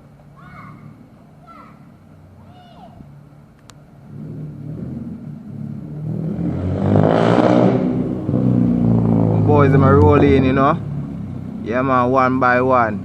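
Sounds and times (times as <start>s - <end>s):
car engine approaching: 0.0s - 13.0s.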